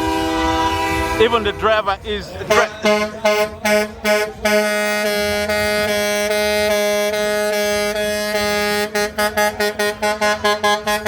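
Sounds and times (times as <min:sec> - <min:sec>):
truck air horn: 0:00.0 - 0:11.0.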